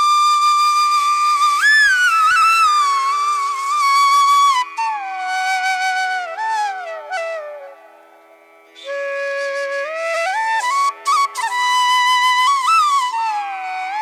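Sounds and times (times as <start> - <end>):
slow flute melody: 0.0 - 8.0, 8.8 - 14.0.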